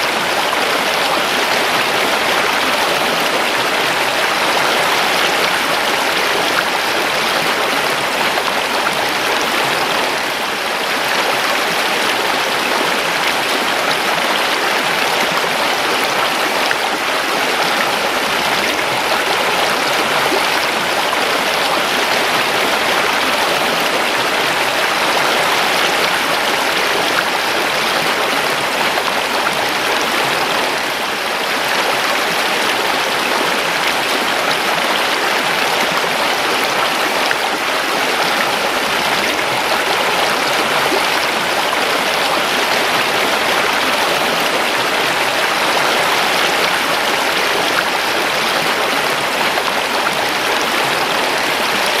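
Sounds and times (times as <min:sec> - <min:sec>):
creek water rushing over stones: 0:00.0 - 0:52.0.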